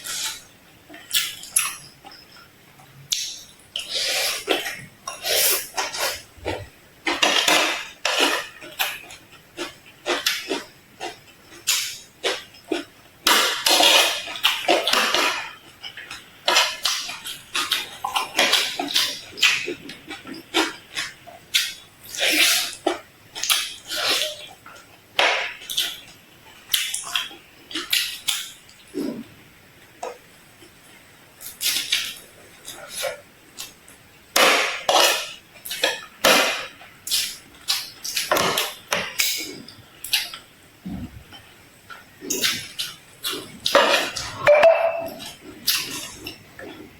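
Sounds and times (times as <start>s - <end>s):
crunching and chewing crisp food: 3.1s - 46.9s.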